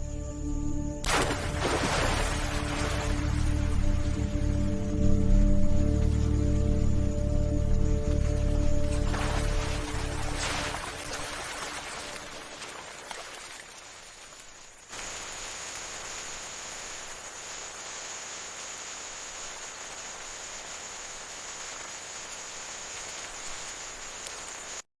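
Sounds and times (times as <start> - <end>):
insect chorus: 0.0 - 24.8.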